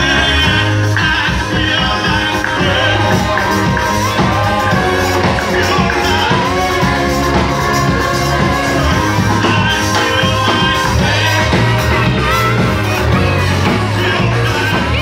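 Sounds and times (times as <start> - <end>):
live band playing praise music: 0.0 - 15.0
voices singing: 0.0 - 15.0.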